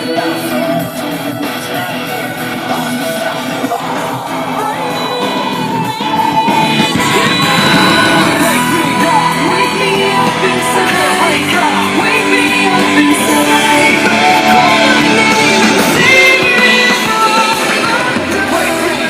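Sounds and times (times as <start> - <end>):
song with singing and band: 0.0 - 19.0.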